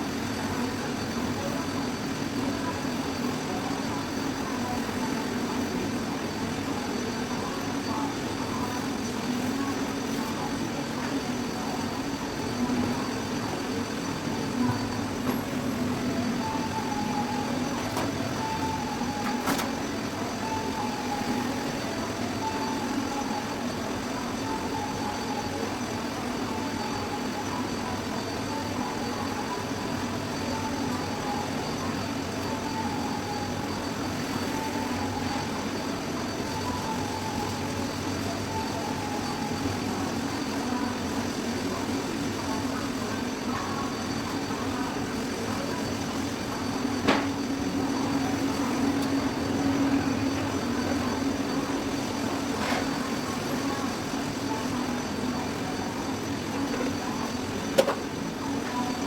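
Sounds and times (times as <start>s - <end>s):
constant tones: 0.0s - 59.0s
machine hum and hiss: 0.0s - 59.0s.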